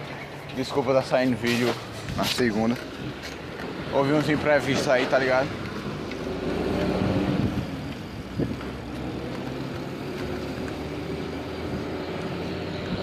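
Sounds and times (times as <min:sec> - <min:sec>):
road traffic noise: 0:00.0 - 0:13.0
vehicle engine running: 0:00.0 - 0:13.0.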